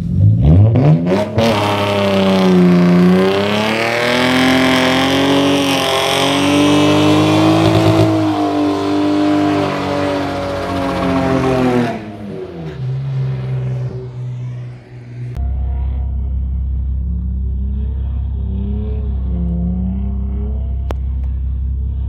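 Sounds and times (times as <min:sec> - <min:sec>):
car engine at high revs: 0:00.0 - 0:22.0.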